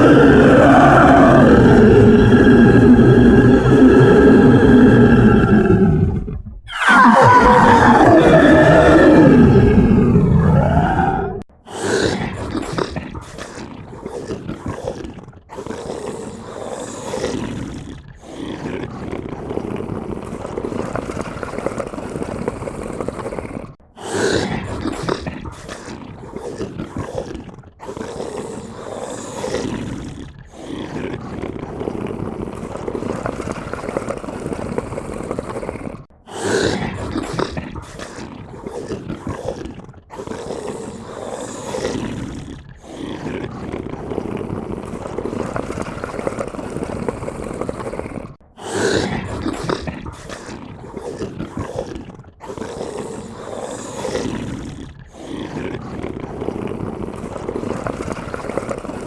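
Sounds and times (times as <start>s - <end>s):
monster growls: 0.0s - 59.0s.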